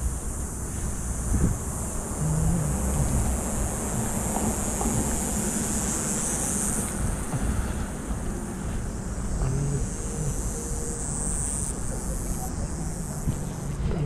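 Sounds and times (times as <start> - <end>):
road and tyre hiss: 0.0 - 14.0
car rumble: 0.7 - 14.0.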